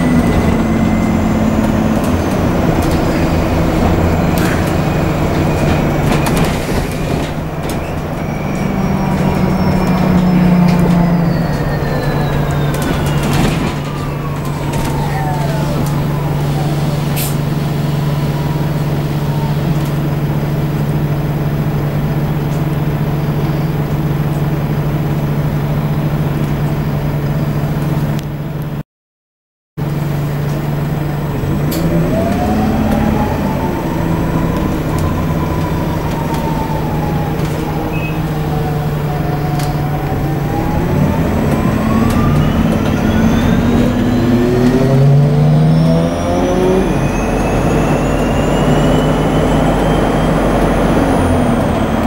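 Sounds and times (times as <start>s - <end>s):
bus interior low hum: 0.0s - 28.8s, 29.8s - 52.0s.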